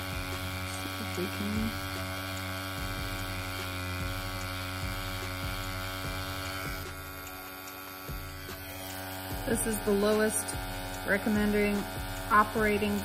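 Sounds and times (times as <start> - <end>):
tattoo pen motor hum: 0.0 - 13.0.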